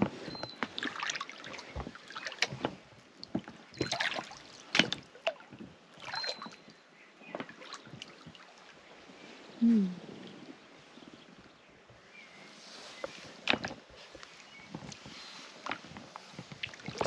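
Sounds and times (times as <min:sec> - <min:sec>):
oars pulling through water: 0:00.0 - 0:17.0.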